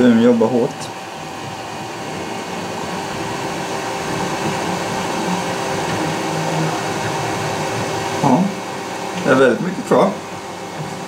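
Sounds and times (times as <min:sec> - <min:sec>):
printer fans whirring: 0:00.0 - 0:11.0
stepper motors humming: 0:00.0 - 0:11.0.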